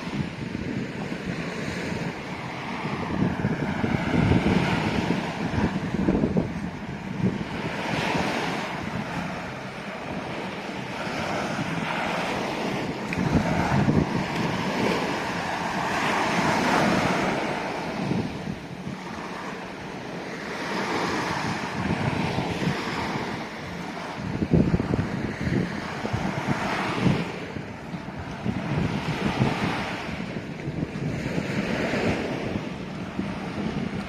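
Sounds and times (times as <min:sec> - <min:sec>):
surf washing on beach: 0:00.0 - 0:34.0
wind buffeting microphone: 0:00.0 - 0:34.0.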